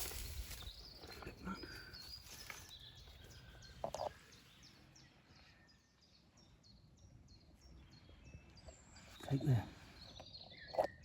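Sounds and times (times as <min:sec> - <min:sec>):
small bird singing: 0:00.0 - 0:11.0.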